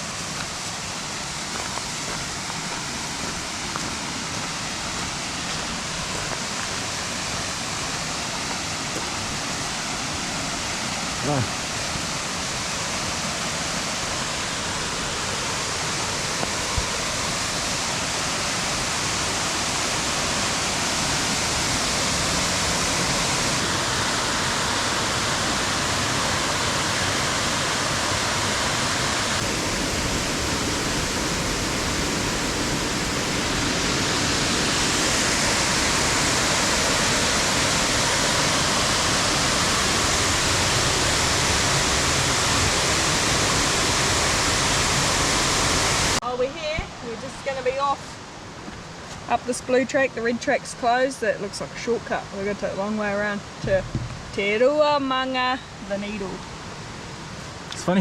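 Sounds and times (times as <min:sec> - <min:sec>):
steady rushing noise: 0:00.0 - 0:47.8.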